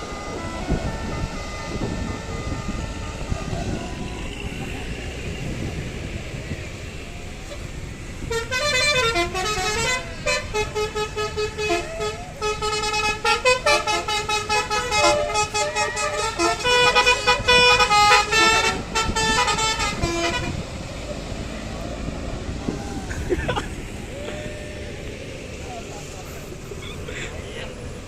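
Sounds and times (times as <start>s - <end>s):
bus horn playing a tune: 0.0s - 6.8s, 7.4s - 25.0s.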